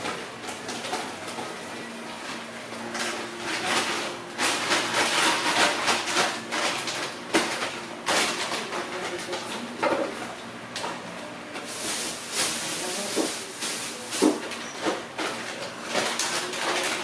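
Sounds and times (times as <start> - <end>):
plastic bags rustling: 0.0 - 9.7, 11.6 - 17.0.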